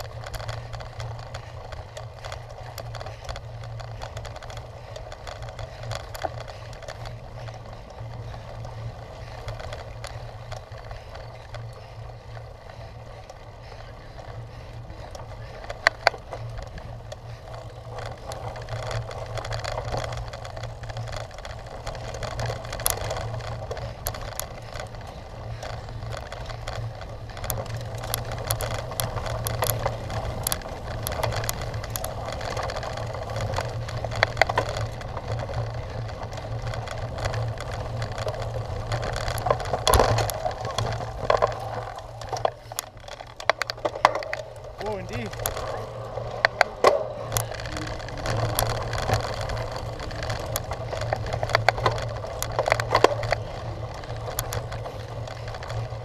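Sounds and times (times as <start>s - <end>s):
bike rattling with clicks: 0.0s - 56.0s
steady low rumble: 0.0s - 56.0s
tyre noise: 0.0s - 56.0s.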